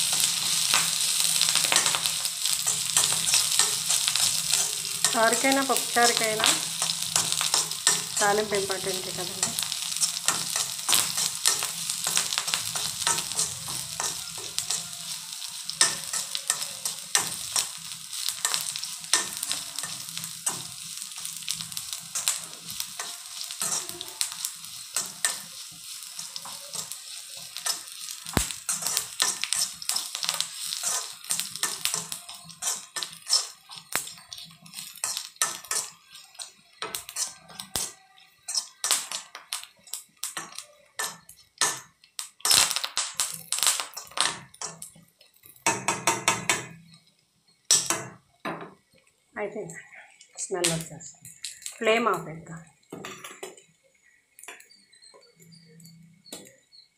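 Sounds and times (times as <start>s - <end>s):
metal spatula scraping a pan: 0.0s - 46.8s
oil sizzling in a pan: 0.0s - 56.9s.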